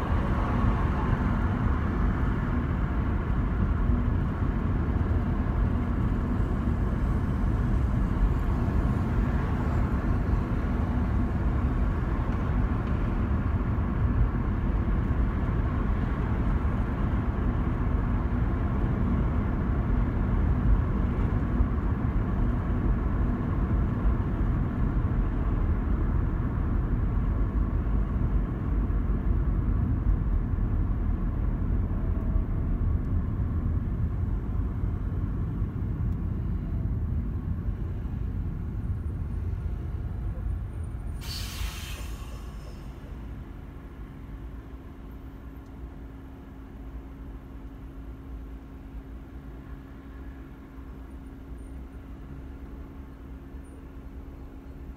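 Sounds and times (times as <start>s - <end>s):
car cabin tyre and engine rumble: 0.0s - 54.9s.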